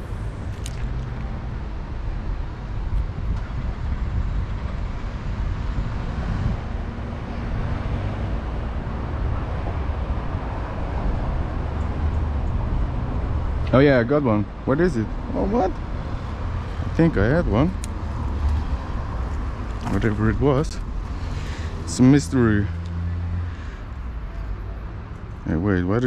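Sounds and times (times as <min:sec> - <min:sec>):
low rumble of outdoor noise: 0:00.0 - 0:26.0.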